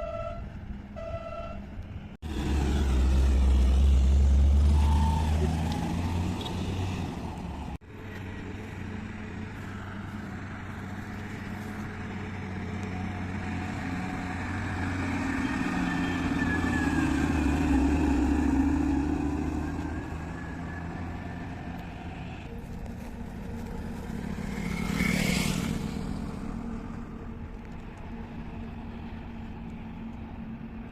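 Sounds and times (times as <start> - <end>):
heavy diesel engine running: 2.2 - 30.9.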